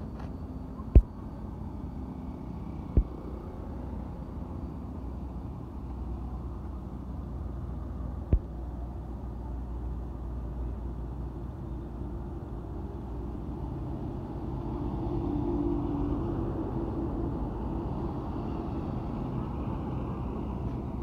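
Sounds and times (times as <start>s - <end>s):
vehicle rumbling along road: 0.0s - 21.0s.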